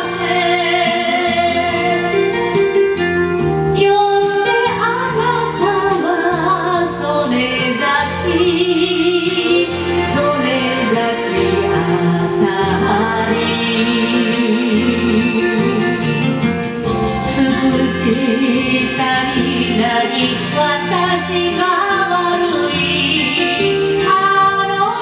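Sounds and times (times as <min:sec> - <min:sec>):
woman singing with vibrato: 0:00.0 - 0:02.4, 0:03.8 - 0:16.5, 0:17.3 - 0:25.0
karaoke backing track: 0:00.0 - 0:25.0.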